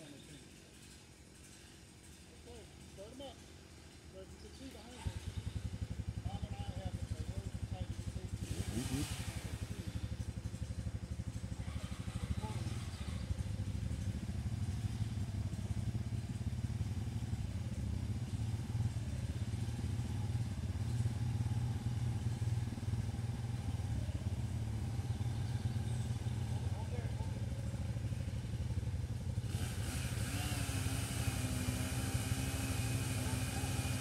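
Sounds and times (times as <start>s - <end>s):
atv engines running: 0.0s - 34.0s.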